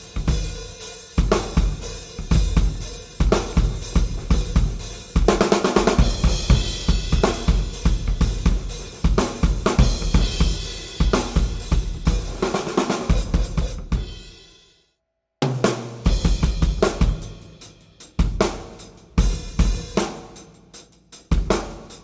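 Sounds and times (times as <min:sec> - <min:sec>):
acoustic drum kit playing: 0:00.0 - 0:14.4, 0:15.4 - 0:22.0.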